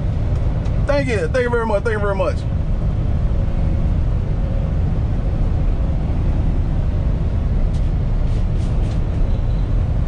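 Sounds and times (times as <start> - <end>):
road noise: 0.0 - 10.0
truck engine rumble: 0.0 - 10.0.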